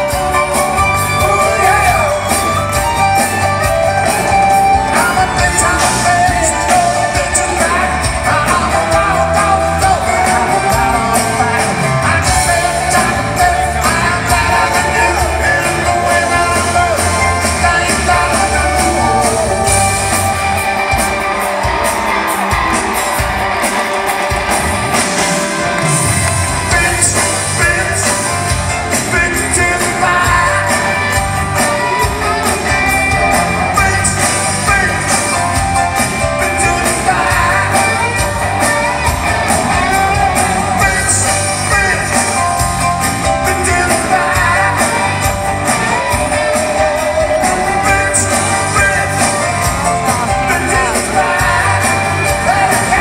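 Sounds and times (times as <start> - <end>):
bass and drums: 0.0 - 53.0
live rock band with singing: 0.0 - 53.0.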